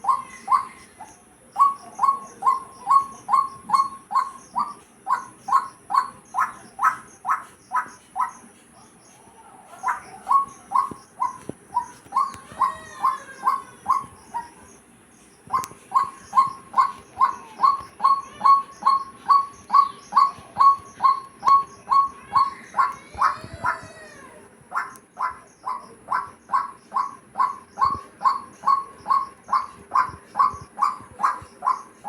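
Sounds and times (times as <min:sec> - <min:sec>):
bird calls with sweeping notes: 0:00.0 - 0:32.0.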